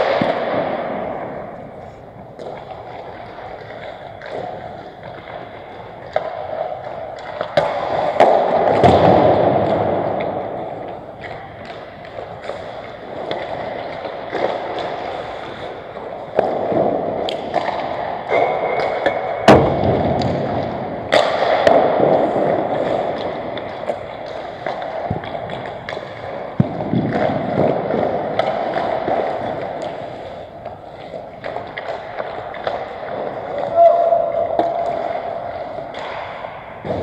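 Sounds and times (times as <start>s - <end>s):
hockey sticks and puck clacking: 0.0s - 37.0s
skates scraping on ice: 0.0s - 37.0s.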